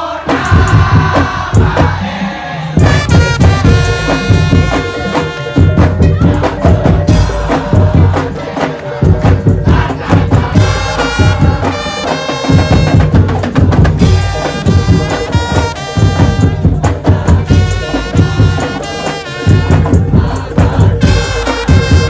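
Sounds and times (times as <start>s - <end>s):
heavy drum beats: 0.0s - 22.0s
wooden percussion: 0.3s - 2.2s, 2.8s - 22.0s.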